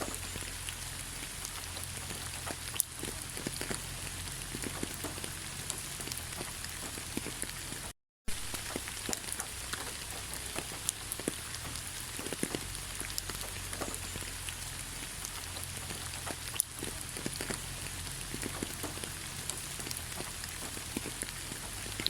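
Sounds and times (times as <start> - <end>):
steady rain in forest: 0.0 - 22.0.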